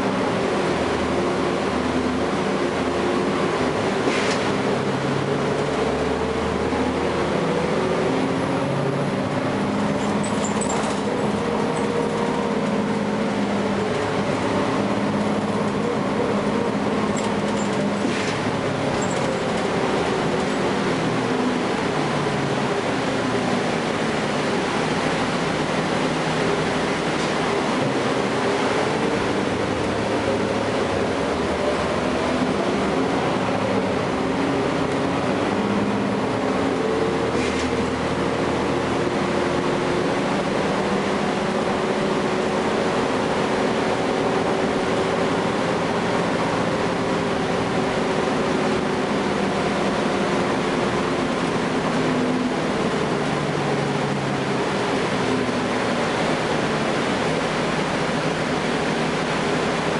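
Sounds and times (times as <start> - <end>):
bus diesel engine running: 0.0 - 59.9
road noise: 0.0 - 59.9.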